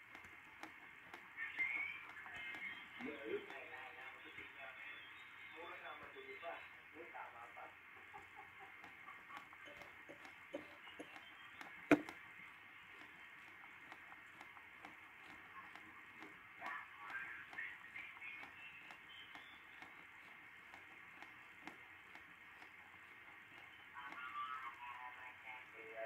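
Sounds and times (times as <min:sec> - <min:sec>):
radio band noise hiss: 0:00.0 - 0:26.0
garbled radio signals: 0:01.1 - 0:26.0.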